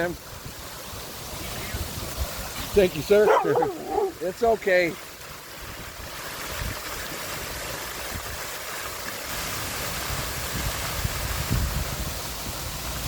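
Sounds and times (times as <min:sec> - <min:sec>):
waterfall rushing over boulders: 0:00.0 - 0:13.0.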